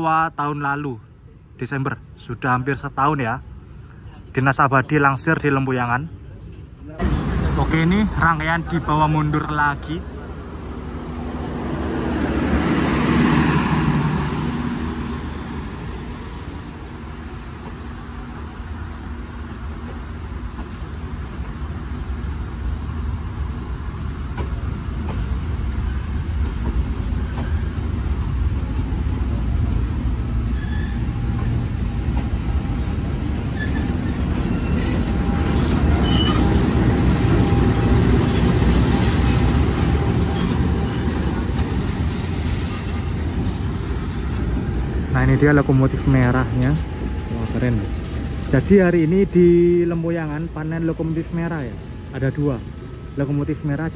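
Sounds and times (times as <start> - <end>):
diesel locomotive: 0.0 - 53.9
train wheels rumbling: 6.5 - 53.9.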